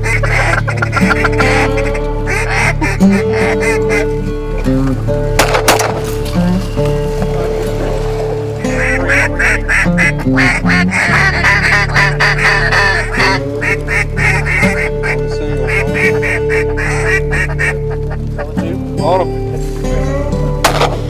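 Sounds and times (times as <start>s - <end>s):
background music: 0.0s - 21.0s
ducks quacking: 0.0s - 21.0s.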